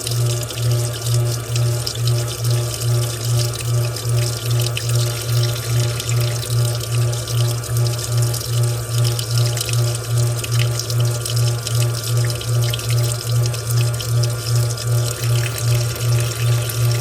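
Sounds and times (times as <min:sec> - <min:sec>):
washing machine pulsing hum: 0:00.0 - 0:17.0
washing machine water splashing: 0:00.0 - 0:17.0.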